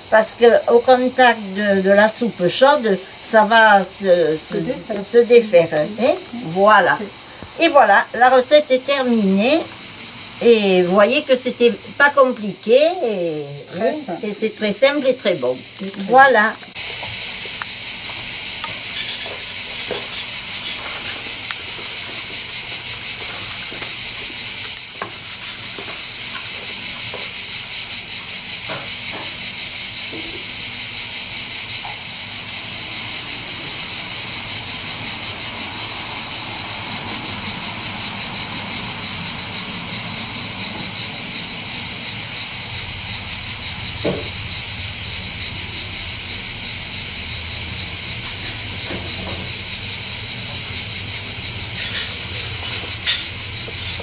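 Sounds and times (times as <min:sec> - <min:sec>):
cicadas buzzing chorus: 0:00.0 - 0:54.0.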